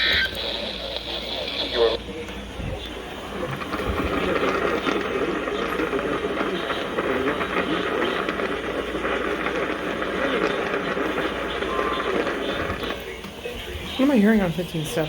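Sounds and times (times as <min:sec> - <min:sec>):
faint garbled voice: 0:00.0 - 0:15.0
radio static hiss: 0:00.0 - 0:15.0.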